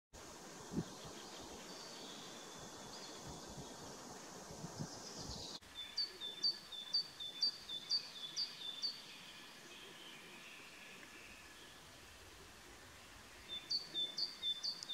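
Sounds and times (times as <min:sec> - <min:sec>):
faint background hiss: 0:00.2 - 0:14.9
songbird singing: 0:00.3 - 0:14.9.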